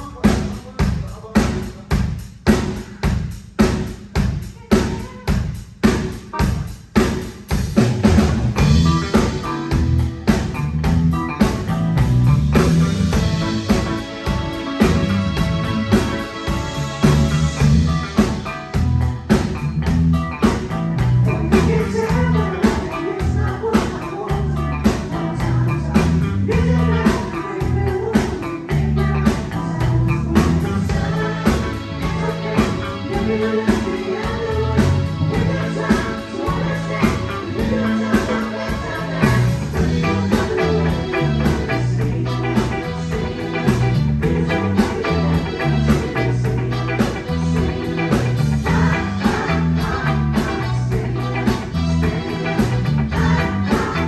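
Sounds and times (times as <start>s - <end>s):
drums keeping steady beat: 0.0s - 54.0s
bass line: 7.7s - 54.0s
electric guitar: 8.0s - 54.0s.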